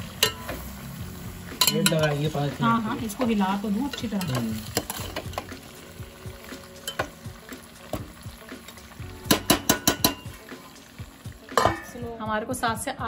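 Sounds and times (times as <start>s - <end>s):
light sizzle: 0.0s - 12.4s.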